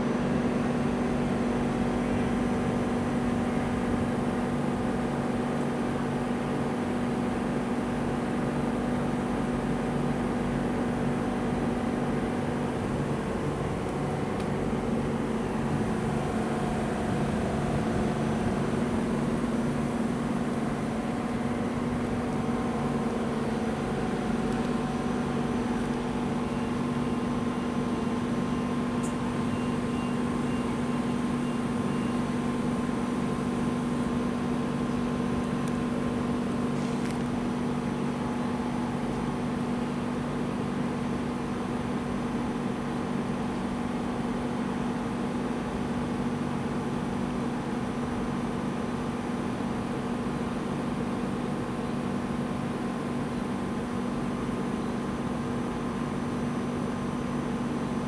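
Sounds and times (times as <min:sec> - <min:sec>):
train electrical hum: 0:00.0 - 0:58.0.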